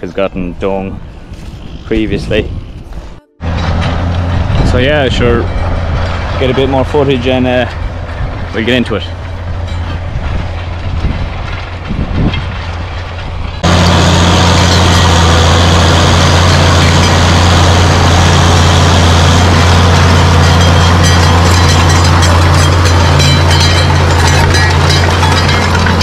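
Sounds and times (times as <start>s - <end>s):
tractor diesel engine running: 3.2s - 26.0s.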